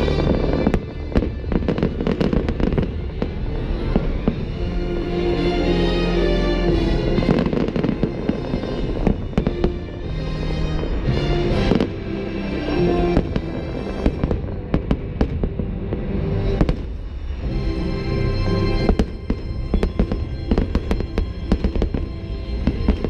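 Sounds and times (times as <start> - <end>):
fireworks bangs and crackles: 0.0 - 5.1, 6.6 - 23.0
music soundtrack: 0.0 - 23.0.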